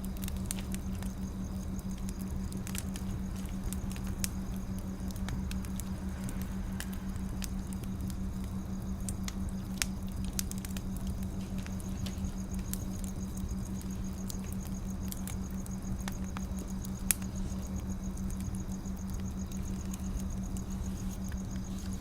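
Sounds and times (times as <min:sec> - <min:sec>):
steady low hum: 0:00.0 - 0:22.0
wood fire crackling and popping: 0:00.0 - 0:22.0.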